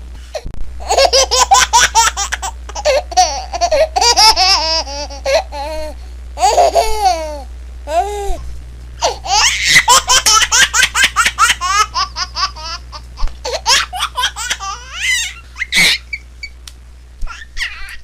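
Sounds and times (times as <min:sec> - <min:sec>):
baby laughing: 0:00.8 - 0:08.4, 0:09.0 - 0:16.3, 0:17.2 - 0:18.0.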